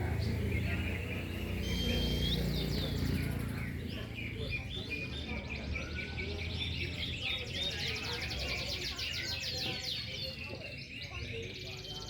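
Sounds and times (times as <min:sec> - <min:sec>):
canaries singing: 0:00.0 - 0:12.0.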